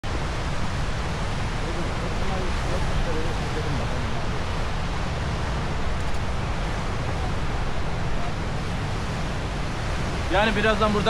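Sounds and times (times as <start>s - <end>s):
low gusting rumble: 0.0s - 11.0s
sea surf on shore: 0.0s - 11.0s
wind buffeting microphone: 0.0s - 11.0s.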